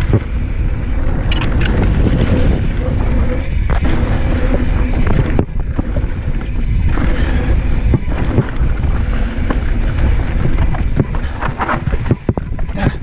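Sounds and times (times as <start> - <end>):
bike knocking on bumps: 0.0 - 13.0
tyres rumbling on gravel: 0.0 - 13.0
wind on microphone: 0.0 - 13.0.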